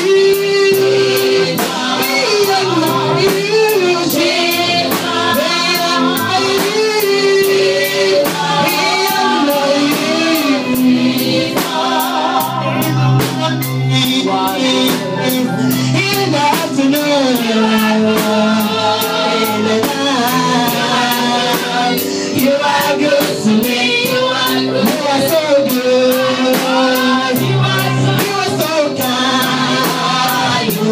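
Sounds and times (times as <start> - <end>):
drum kit beat: 0.0 - 30.9
guitar: 0.0 - 30.9
people singing gospel: 0.0 - 30.9.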